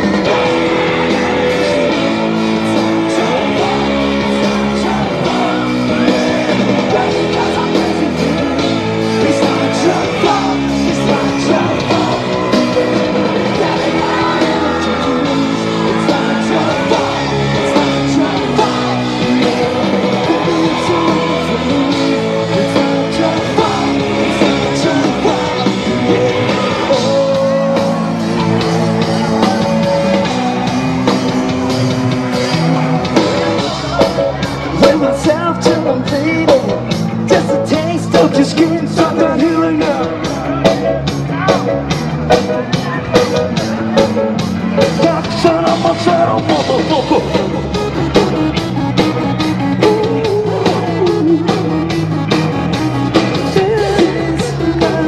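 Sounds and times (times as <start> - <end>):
crowd yelling: 0.0 - 55.0
live rock band: 0.0 - 55.0
male lead vocals: 0.0 - 55.0.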